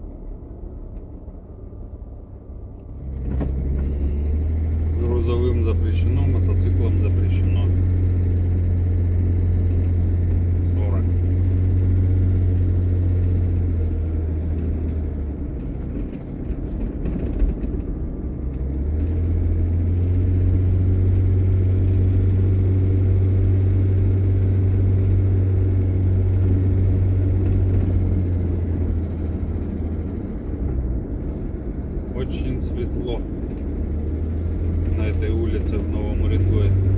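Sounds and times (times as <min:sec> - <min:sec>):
car engine and road drone: 0:00.0 - 0:36.9.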